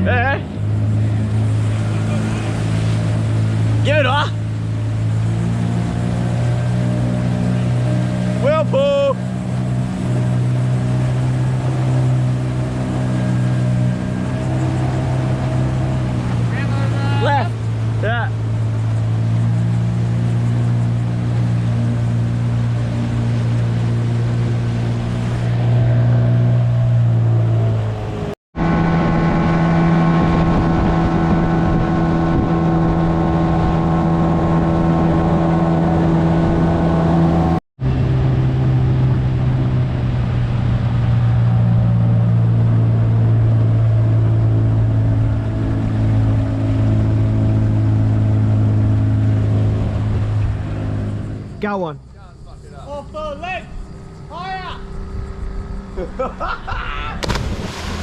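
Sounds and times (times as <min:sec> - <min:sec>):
outboard motor running: 0:00.0 - 0:56.5, 0:57.2 - 0:58.0.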